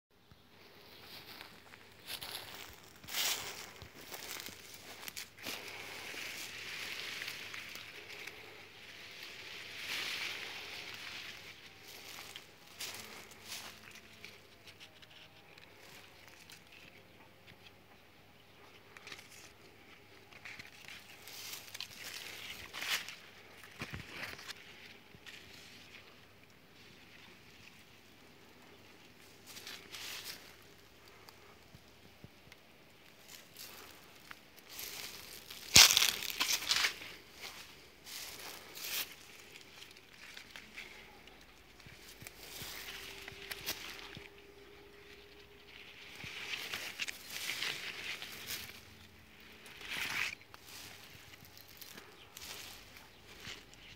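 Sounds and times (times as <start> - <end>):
leaves and twigs rustling: 0.3 - 53.9.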